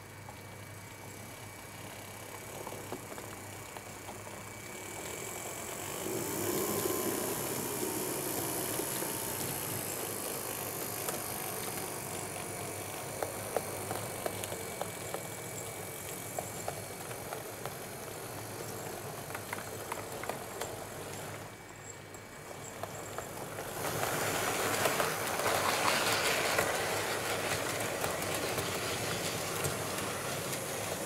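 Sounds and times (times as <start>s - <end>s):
model train running: 0.0s - 31.0s
wheels clicking over rail joints: 1.7s - 31.0s.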